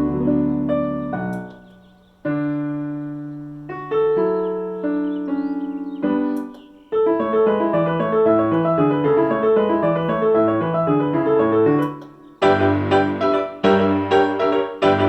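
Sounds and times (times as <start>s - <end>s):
digital piano playing chords: 0.0s - 15.0s.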